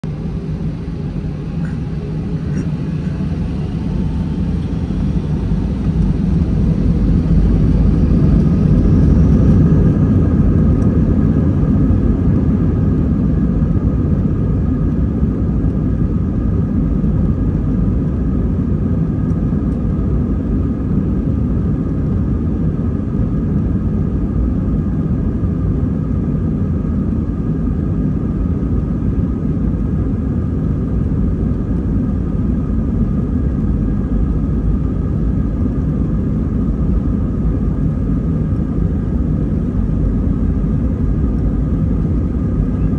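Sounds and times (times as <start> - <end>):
jet engines deep rumble: 0.0 - 42.9
whining fan tones: 0.0 - 42.9.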